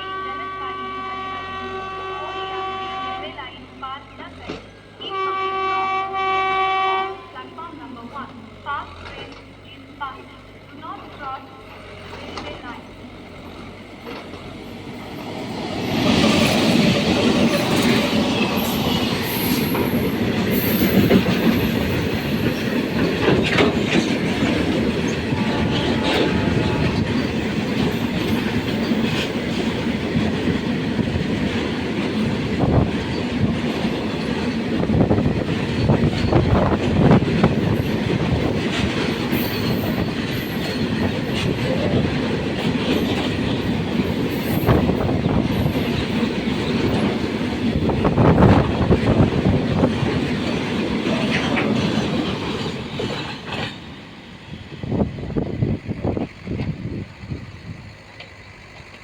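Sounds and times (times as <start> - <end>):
freight train rumbling past: 0.0 - 59.0
wheels clicking over rail joints: 8.3 - 54.0, 56.1 - 59.0.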